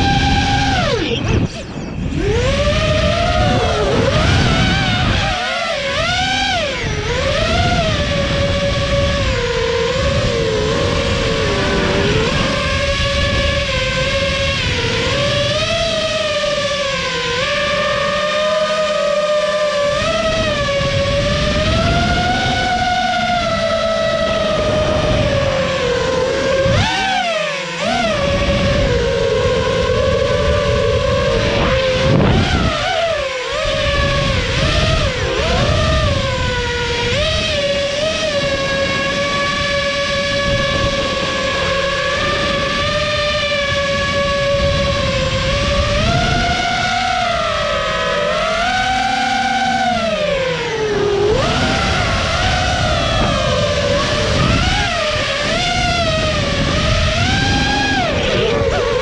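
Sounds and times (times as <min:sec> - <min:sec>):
drone motors whining: 0:00.0 - 0:59.0
wind rumble on microphone: 0:00.0 - 0:59.0.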